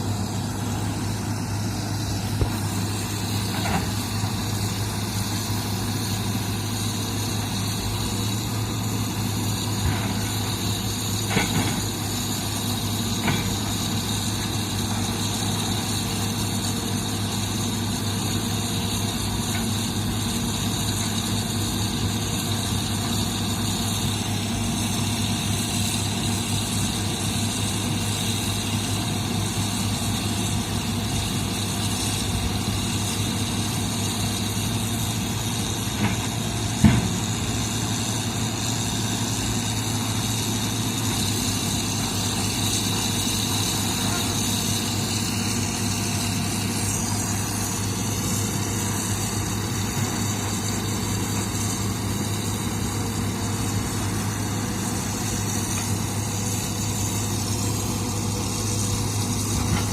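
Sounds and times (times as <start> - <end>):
heavy equipment engine running: 0.0 - 59.9.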